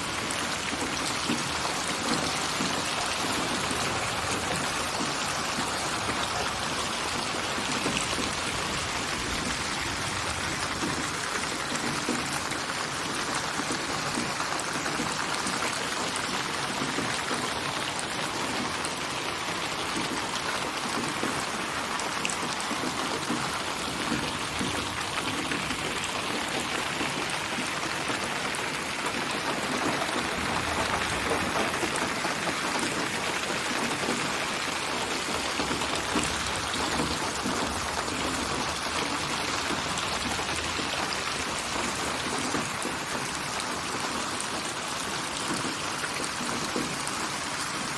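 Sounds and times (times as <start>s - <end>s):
rain patter: 0.0s - 47.9s.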